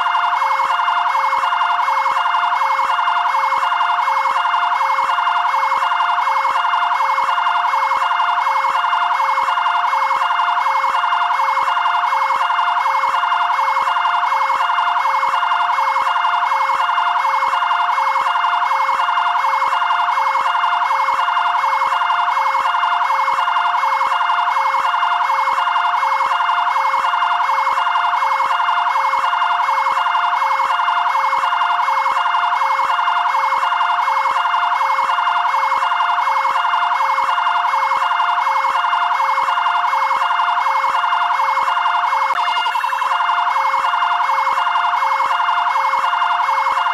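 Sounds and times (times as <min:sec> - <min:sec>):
two-tone siren: 0:00.0 - 0:46.9.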